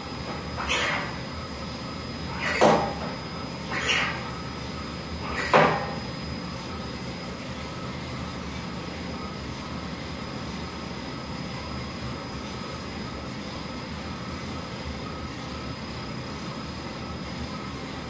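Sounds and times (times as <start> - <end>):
coffee roaster humming: 0.0 - 18.0.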